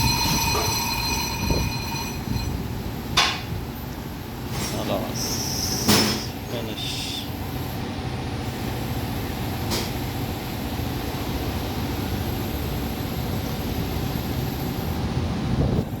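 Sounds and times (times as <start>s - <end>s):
lathe humming and whining: 0.0s - 16.0s.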